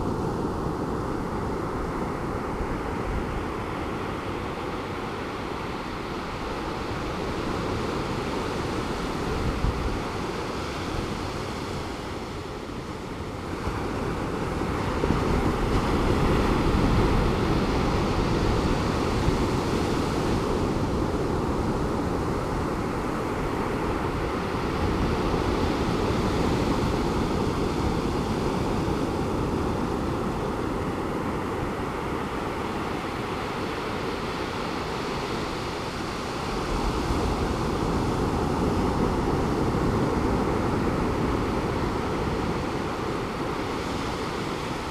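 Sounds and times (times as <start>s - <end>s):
distant surf breaking on beach: 0.0s - 44.9s.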